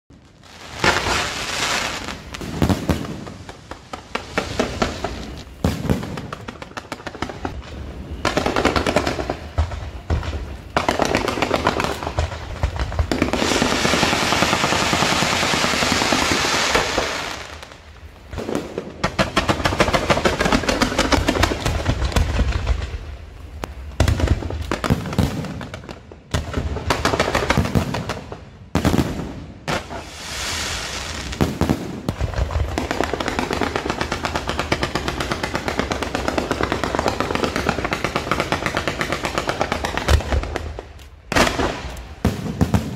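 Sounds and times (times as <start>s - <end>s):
fireworks crackling pops and bangs: 0.1s - 42.9s.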